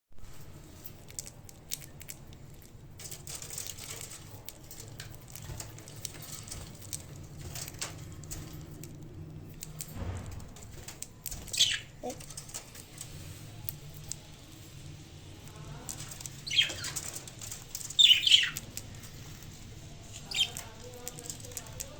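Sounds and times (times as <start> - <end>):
budgies pecking and chewing: 0.2 - 21.9.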